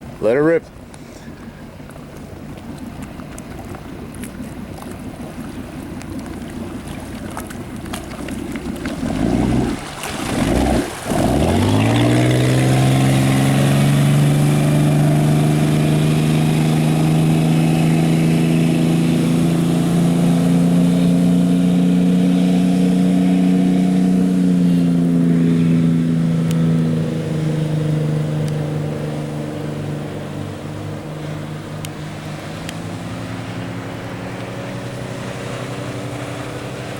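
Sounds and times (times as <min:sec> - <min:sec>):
motorboat engine at full throttle: 0:00.0 - 0:36.9.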